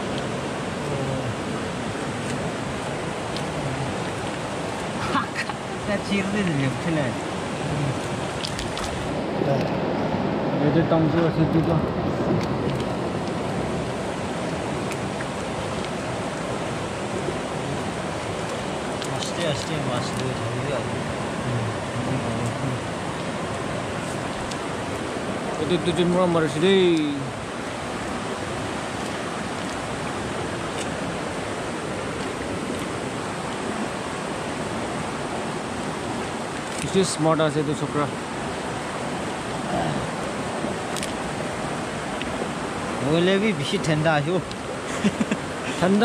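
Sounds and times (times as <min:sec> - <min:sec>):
river flowing over stones: 0:00.0 - 0:46.0.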